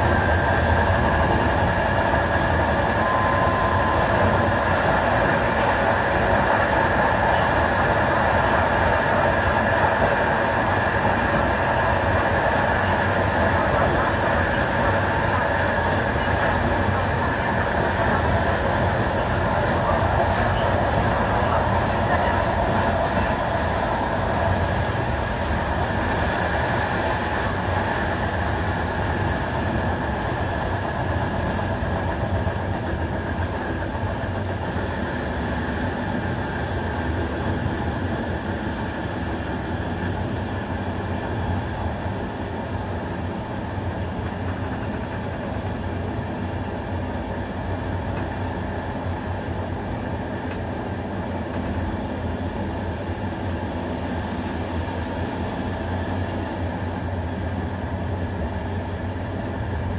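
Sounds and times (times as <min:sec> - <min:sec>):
faint high whine: 0:00.0 - 0:50.5
train coach rumbling: 0:00.0 - 0:59.9
train wheels rolling on rails: 0:00.0 - 0:59.9.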